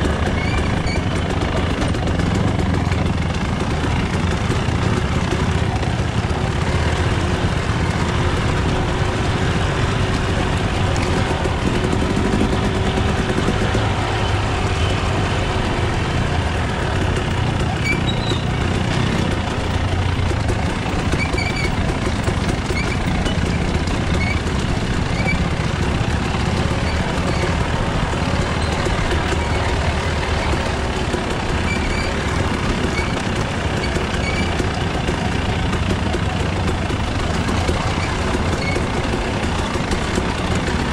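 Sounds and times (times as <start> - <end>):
dirt bike engine at low revs: 0.0 - 40.9.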